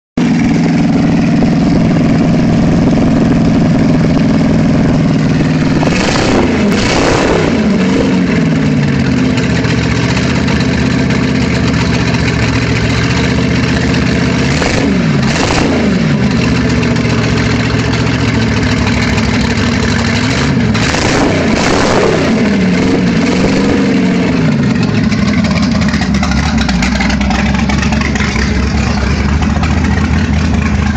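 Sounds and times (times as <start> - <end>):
boat engine idling and revving: 0.2 - 30.9.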